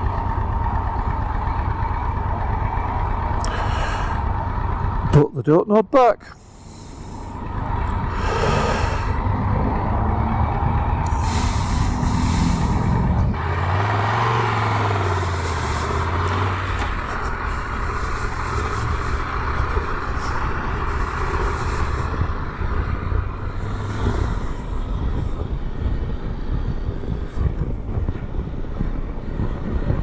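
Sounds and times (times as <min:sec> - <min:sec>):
motorcycle engine running: 0:00.0 - 0:05.1, 0:06.4 - 0:30.0
wind and road noise: 0:00.0 - 0:30.0.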